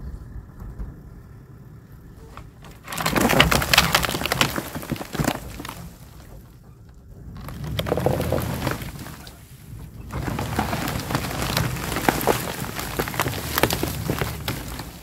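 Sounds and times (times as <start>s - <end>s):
low engine rumble: 0.0s - 15.0s
logs cracking and snapping: 2.6s - 15.0s.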